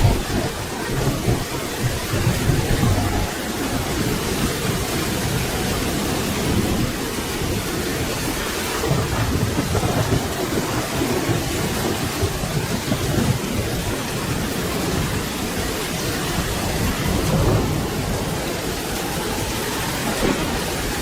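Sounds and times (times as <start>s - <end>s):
distant thunder rumbling: 0.0s - 21.0s
steady dense rain: 0.0s - 21.0s.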